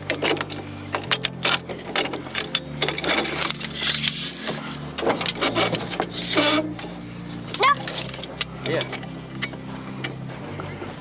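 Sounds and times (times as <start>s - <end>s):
tools knocking and scraping: 0.0s - 10.9s.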